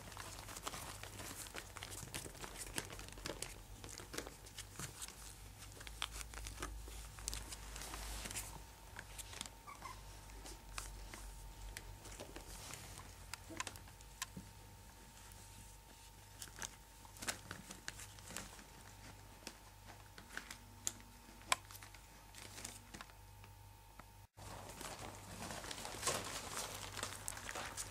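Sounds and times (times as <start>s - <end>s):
puppies rustling and scratching: 0.0s - 23.2s, 24.3s - 27.9s.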